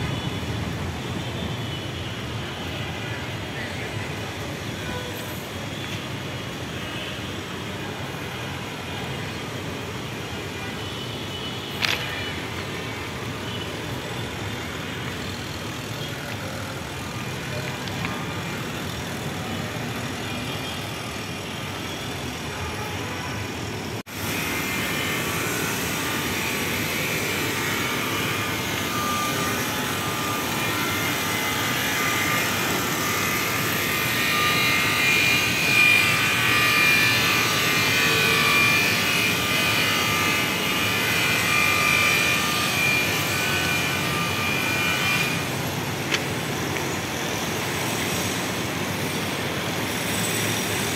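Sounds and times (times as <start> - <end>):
distant traffic hiss: 0.0 - 50.9.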